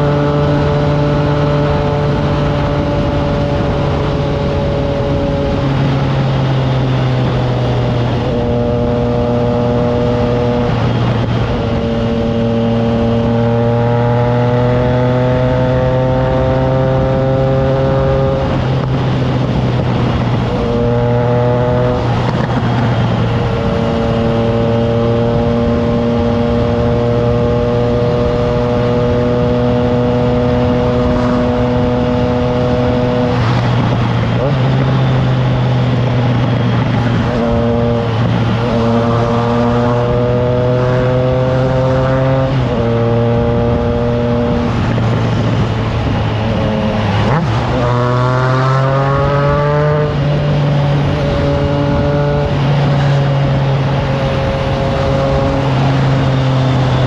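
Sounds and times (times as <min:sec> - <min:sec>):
motorcycle engine at road speed: 0:00.0 - 0:57.0
wind noise: 0:00.0 - 0:57.0.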